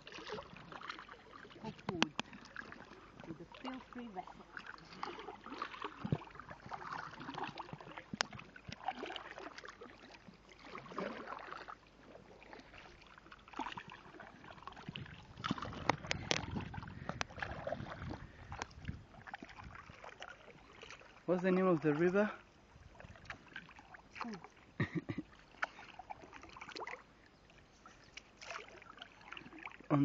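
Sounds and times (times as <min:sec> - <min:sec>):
paddles splashing water: 0:00.0 - 0:30.0.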